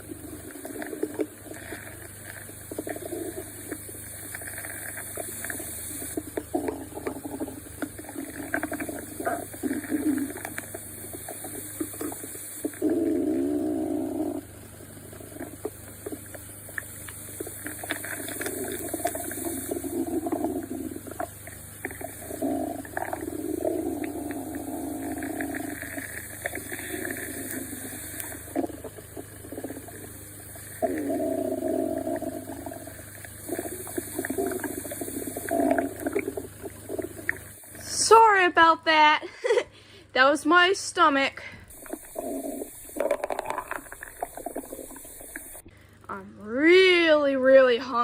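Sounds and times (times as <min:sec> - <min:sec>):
stomach growling: 0:00.0 - 0:38.2, 0:41.6 - 0:46.2.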